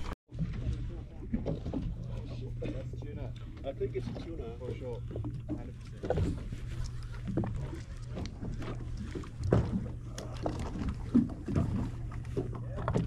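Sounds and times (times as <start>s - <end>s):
small waves slapping boat hull: 0.0s - 13.0s
steady low hum: 0.0s - 13.0s.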